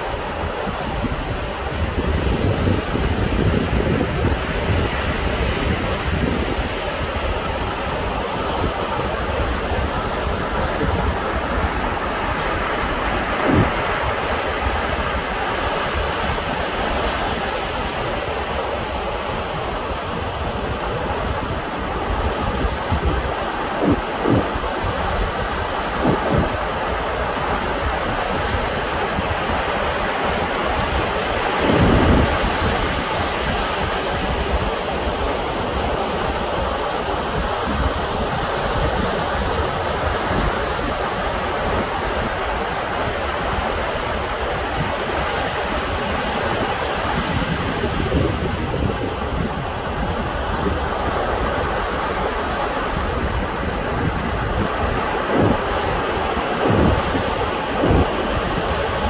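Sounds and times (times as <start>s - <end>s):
ocean surf: 0.0s - 59.0s
wind: 0.0s - 59.0s.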